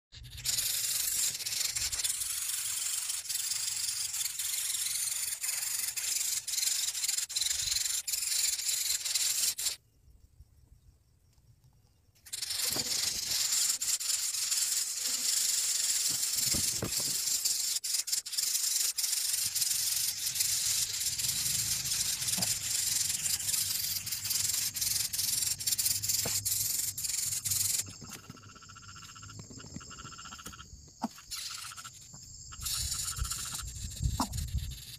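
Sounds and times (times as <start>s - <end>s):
nestlings hissing: 0.2s - 9.8s, 12.2s - 34.9s.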